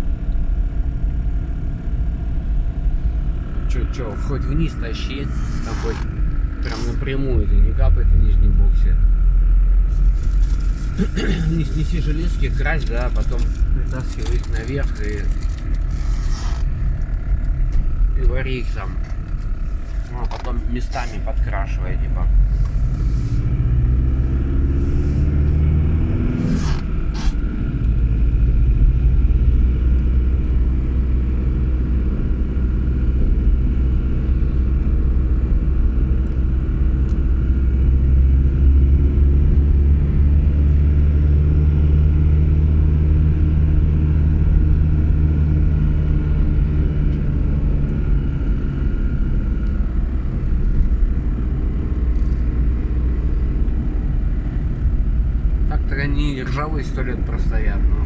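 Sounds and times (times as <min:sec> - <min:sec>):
engine rumble with low drone: 0:00.0 - 0:58.0.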